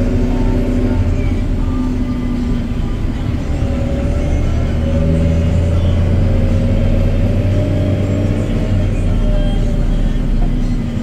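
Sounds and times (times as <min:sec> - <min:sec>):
high engine whine: 0:00.0 - 0:11.0
tractor diesel engine drone: 0:00.0 - 0:11.0.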